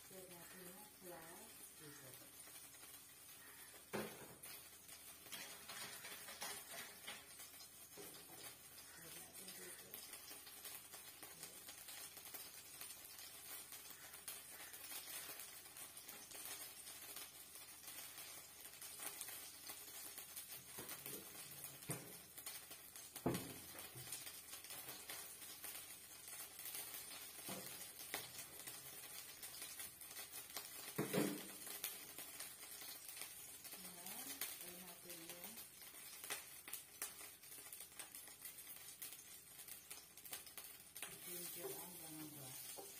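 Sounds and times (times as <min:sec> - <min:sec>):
faint steady hiss: 0:00.0 - 0:42.9.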